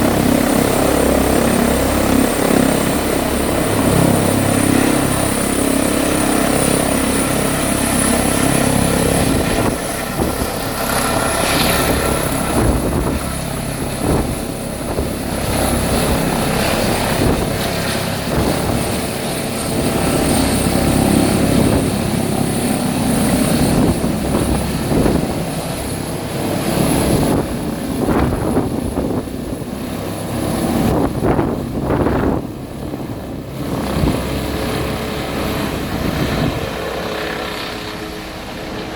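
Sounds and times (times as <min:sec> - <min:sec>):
helicopter rotor and engine rumble: 0:00.0 - 0:38.9
high turbine whine: 0:00.0 - 0:38.9.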